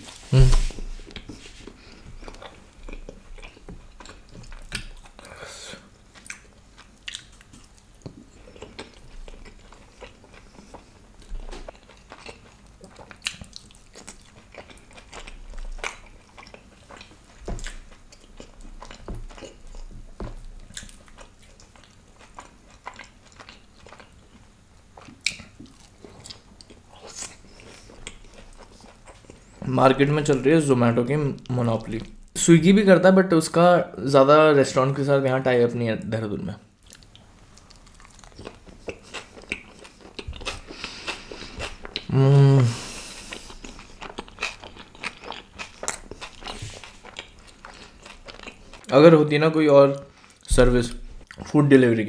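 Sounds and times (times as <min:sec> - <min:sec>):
man chewing food: 0:00.0 - 0:30.5, 0:36.8 - 0:48.9, 0:50.0 - 0:51.5.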